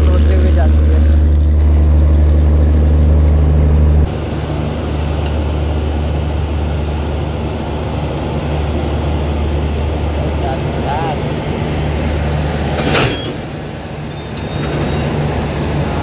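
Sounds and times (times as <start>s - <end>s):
loud low locomotive hum: 0.0s - 16.0s
train rumble: 0.0s - 16.0s.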